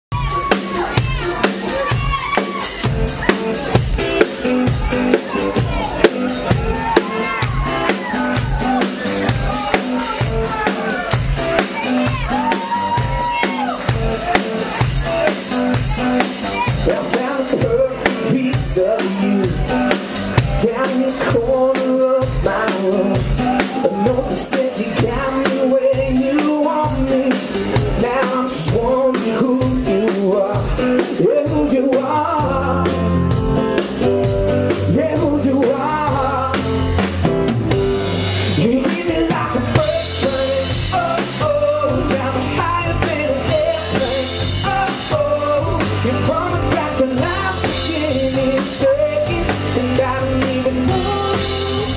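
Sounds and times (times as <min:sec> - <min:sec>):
man singing lead vocal: 0:00.1 - 0:37.3, 0:38.4 - 0:51.9
live band playing: 0:00.1 - 0:51.9
steady drum beat: 0:00.1 - 0:51.9
sustained bass: 0:00.1 - 0:51.9.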